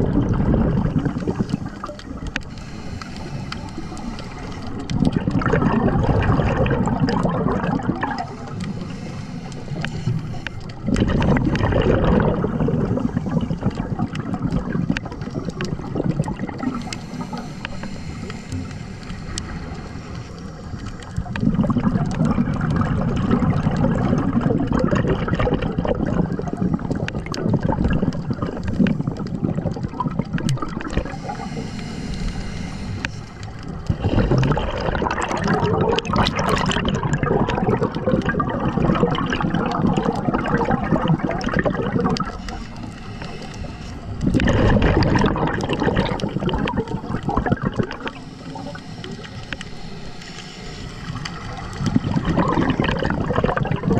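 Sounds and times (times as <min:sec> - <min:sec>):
bubbles gurgling underwater: 0:00.0 - 0:50.3, 0:51.0 - 0:53.9.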